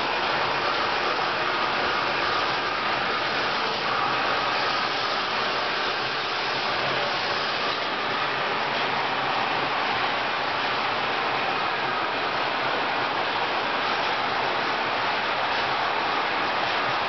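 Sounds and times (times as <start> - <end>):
model train wheels whirring: 0.0 - 17.0.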